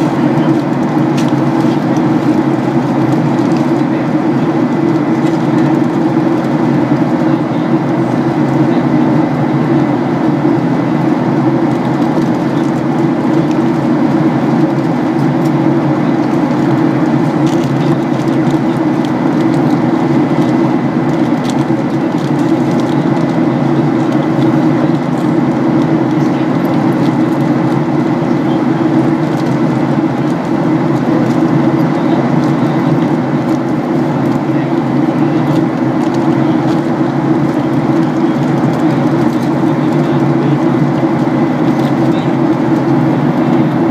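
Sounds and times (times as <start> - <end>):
jet engine cabin drone: 0.0 - 43.9.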